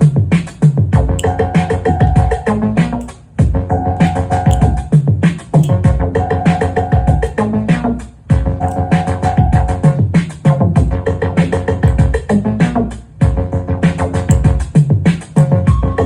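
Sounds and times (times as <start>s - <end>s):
electronic music with drum-machine beat: 0.0s - 7.5s, 8.7s - 16.0s.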